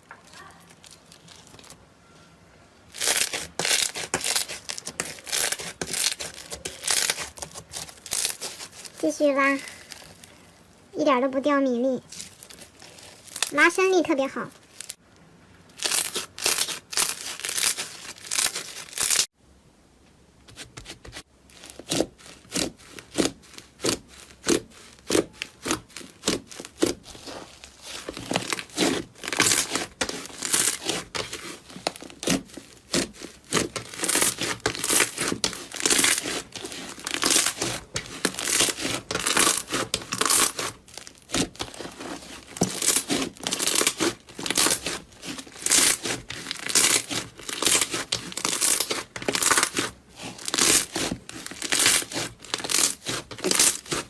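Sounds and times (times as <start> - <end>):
slime crackling and popping: 2.9 - 9.0, 12.0 - 15.0, 15.7 - 19.3, 21.5 - 54.0.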